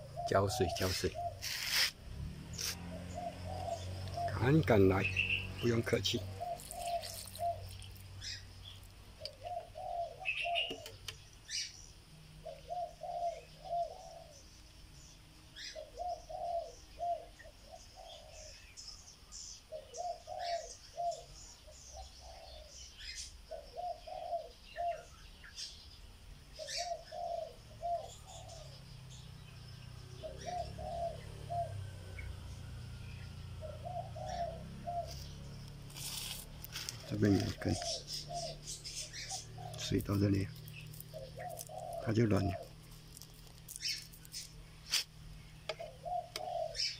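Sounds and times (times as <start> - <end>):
dove cooing: 0.0 - 1.9, 2.6 - 11.6, 12.4 - 14.5, 15.6 - 18.7, 19.7 - 25.1, 26.6 - 46.9
small birds chirping: 0.0 - 46.9.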